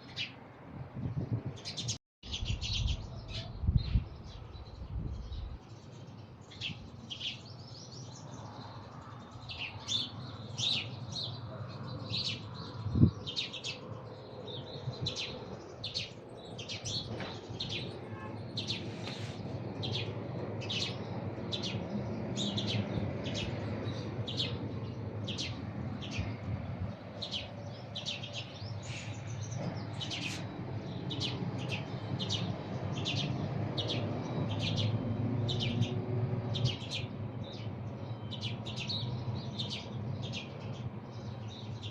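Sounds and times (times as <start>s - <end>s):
small bird chirping: 1.8s - 41.9s.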